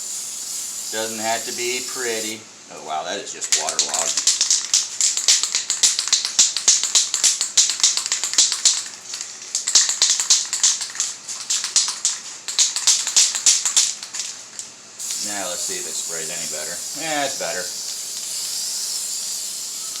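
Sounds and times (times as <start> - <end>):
aerosol can rattling: 3.5 - 19.9.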